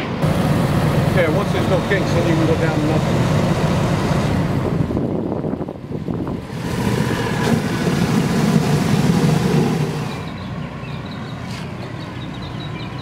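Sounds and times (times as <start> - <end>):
fire engine humming: 0.0 - 13.0.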